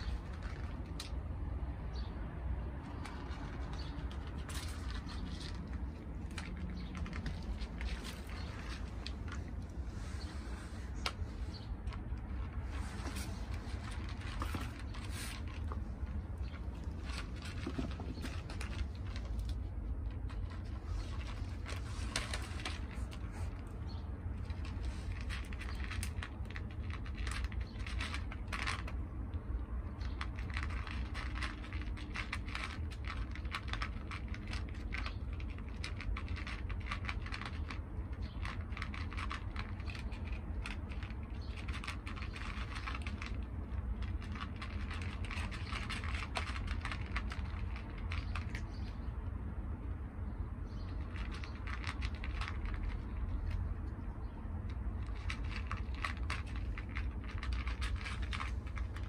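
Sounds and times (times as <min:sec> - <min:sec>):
cats crunching kibble: 0:00.0 - 0:59.0.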